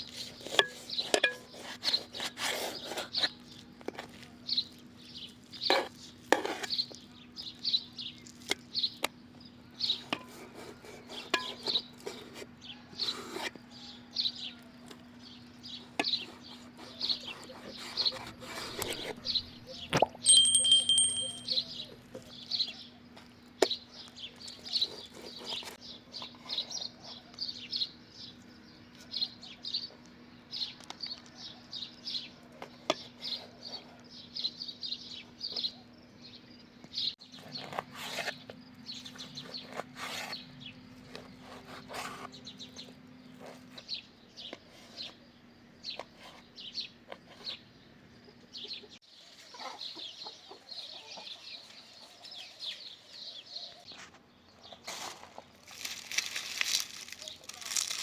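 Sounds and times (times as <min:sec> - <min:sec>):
small birds chirping: 0:00.0 - 0:55.2.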